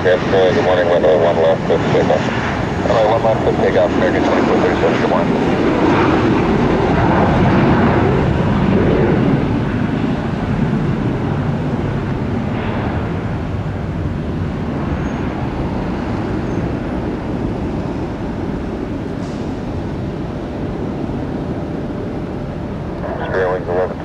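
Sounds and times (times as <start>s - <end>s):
jet engines deep rumble: 0.0s - 24.0s.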